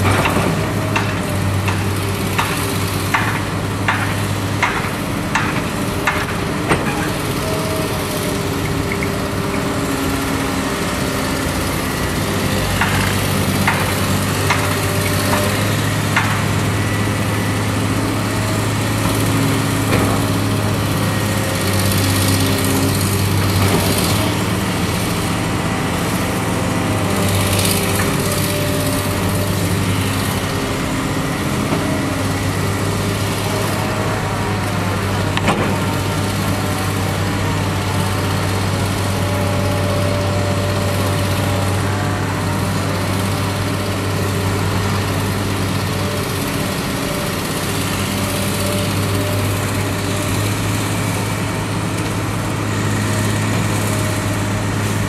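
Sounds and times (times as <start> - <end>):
excavator diesel engines under load: 0.0 - 55.0.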